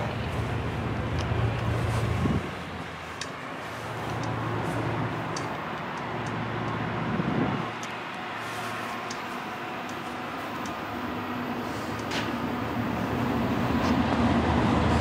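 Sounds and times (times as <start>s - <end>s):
distant diesel train rumble: 0.0s - 15.0s
vehicle noise: 0.0s - 15.0s.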